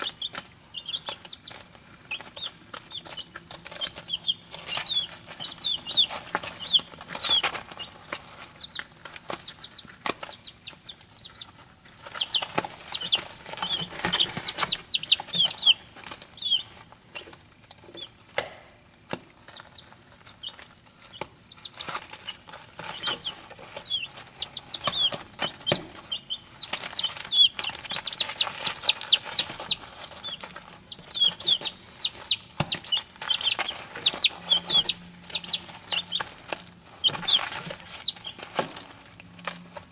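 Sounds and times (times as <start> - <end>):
chicks peeping: 0.0 - 39.9
rustling and pecking in shavings: 0.0 - 39.9.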